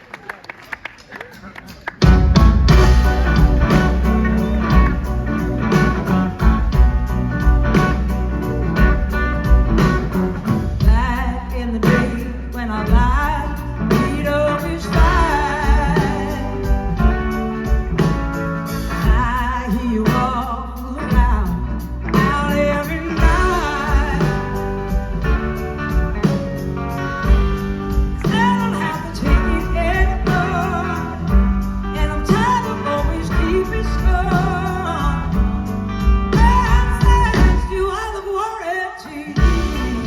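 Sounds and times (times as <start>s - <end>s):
blues-rock band playing: 1.9s - 38.1s, 39.4s - 40.0s.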